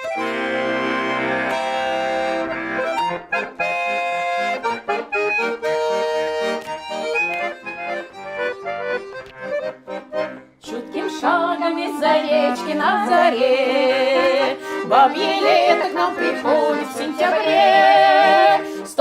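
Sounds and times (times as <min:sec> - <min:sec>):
button accordion playing: 0:00.0 - 0:19.0.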